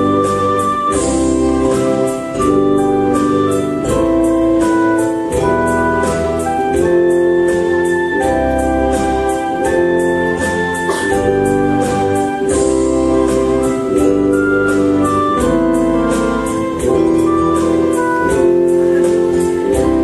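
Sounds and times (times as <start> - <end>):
bass line: 0.0 - 20.0
keyboard and organ chords: 0.0 - 20.0.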